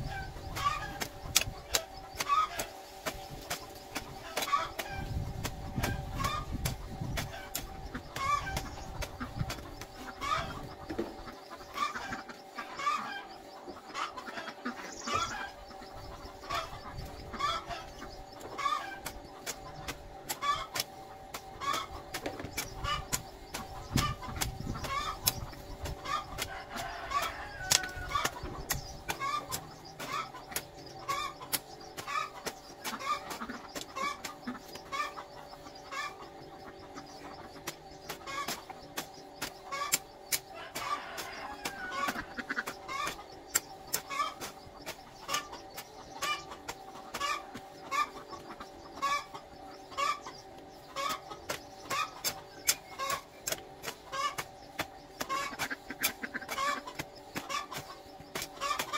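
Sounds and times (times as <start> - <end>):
chickens clucking: 0.0 - 58.9
steady hum: 0.0 - 58.9.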